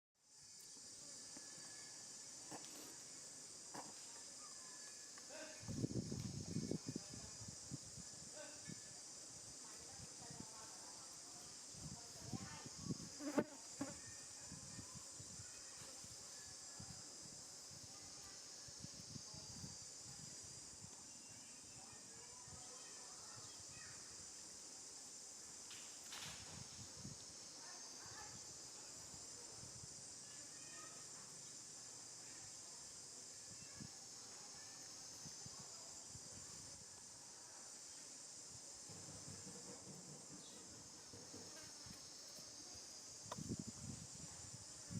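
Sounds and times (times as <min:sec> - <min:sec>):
high insect chorus: 0:00.2 - 0:44.9.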